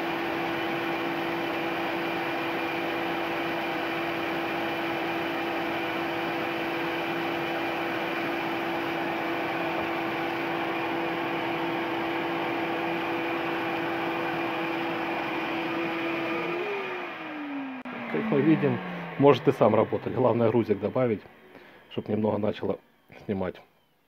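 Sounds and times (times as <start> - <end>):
belt sander motor hum: 0.0 - 23.2.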